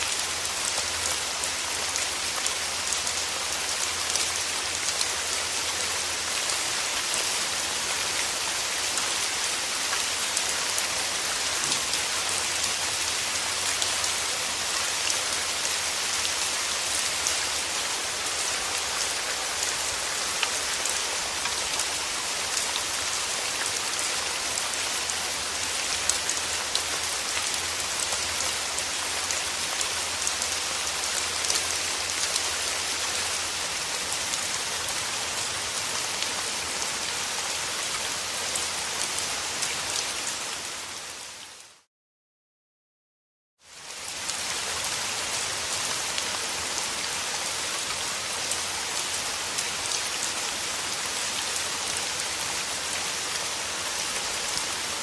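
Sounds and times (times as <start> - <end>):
rain falling: 0.0 - 41.9, 43.6 - 55.0.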